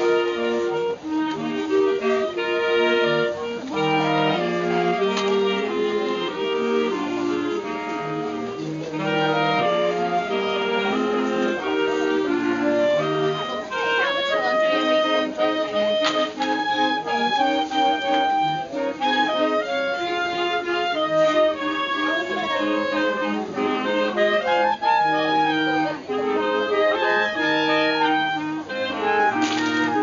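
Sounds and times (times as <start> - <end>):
clarinet ensemble playing: 0.0 - 30.0.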